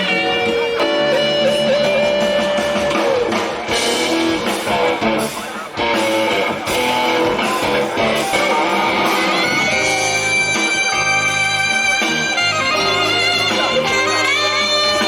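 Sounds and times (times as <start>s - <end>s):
guitar: 0.0s - 15.0s
jazz band playing: 0.0s - 15.0s.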